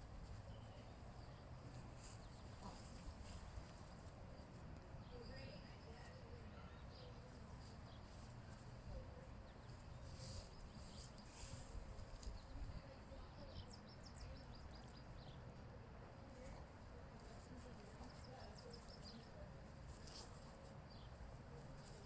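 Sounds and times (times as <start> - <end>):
distant birds chirping: 0.0 - 22.0.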